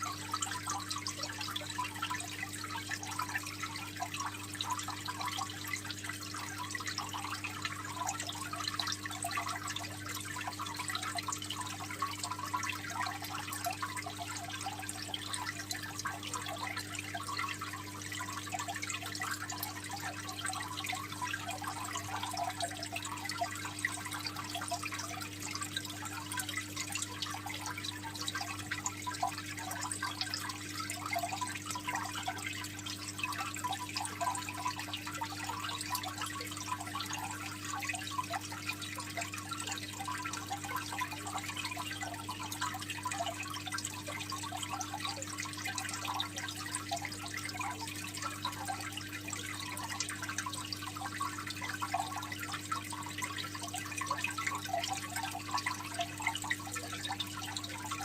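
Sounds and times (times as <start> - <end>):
aquarium water trickling and bubbling: 0.0 - 58.0.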